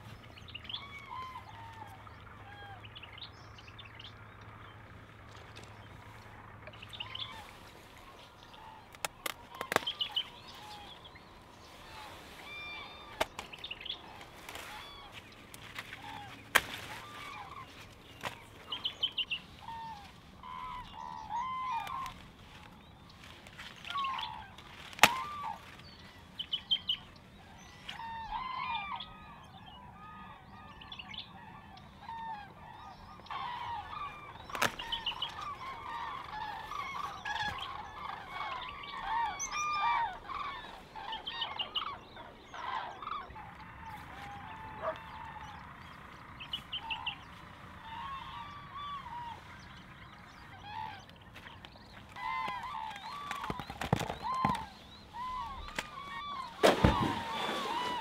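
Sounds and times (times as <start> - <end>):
birds calling: 0.0 - 58.0.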